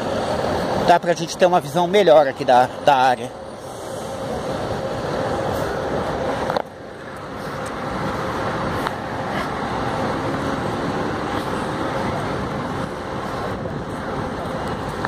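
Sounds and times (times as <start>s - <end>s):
car and bus engines: 0.0s - 15.0s
road noise: 0.0s - 15.0s.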